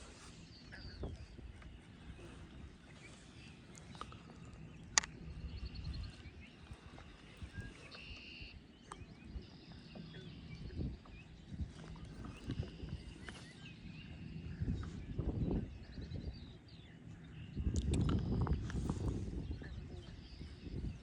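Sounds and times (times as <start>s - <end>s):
birds singing faintly: 0.0s - 21.0s
wind rumble on microphone: 0.0s - 21.0s.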